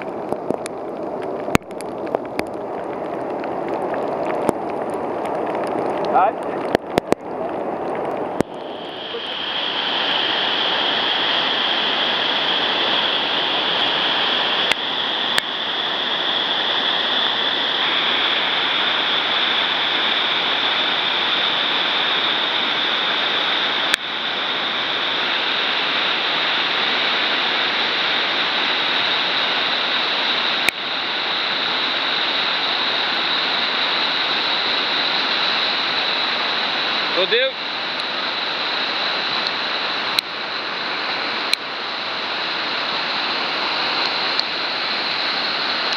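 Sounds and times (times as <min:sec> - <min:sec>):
white water rushing over a weir: 0:00.0 - 0:45.9.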